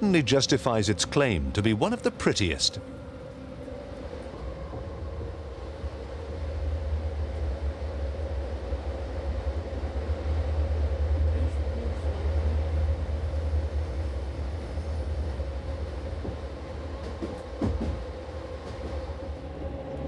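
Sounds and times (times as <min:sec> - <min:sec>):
train rumbling on track: 0:00.0 - 0:20.0.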